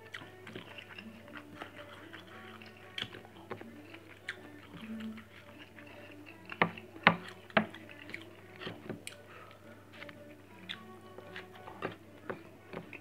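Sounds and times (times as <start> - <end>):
man chewing food: 0.0 - 13.0.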